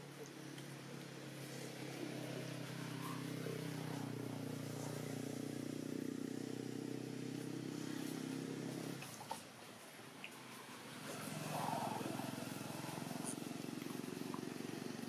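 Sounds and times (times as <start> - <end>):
vehicle engine running: 0.0 - 9.4, 10.4 - 15.0.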